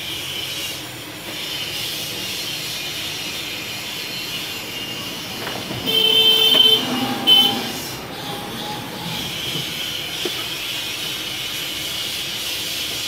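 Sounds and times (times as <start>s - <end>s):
vehicle horn: 0.0s - 12.3s
hissing street background noise: 0.0s - 13.0s.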